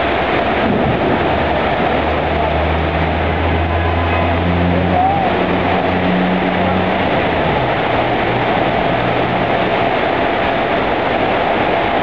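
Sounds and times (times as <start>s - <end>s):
heavy rain and hail on paving: 0.0s - 12.0s.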